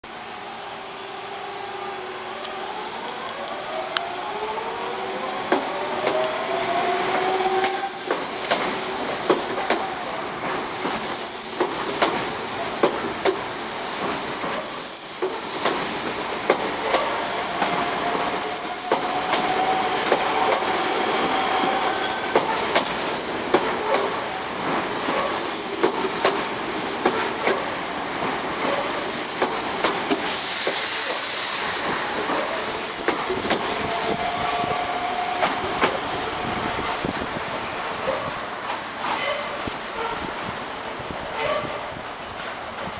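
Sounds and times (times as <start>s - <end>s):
train cars rumble and hiss: 0.0s - 42.9s.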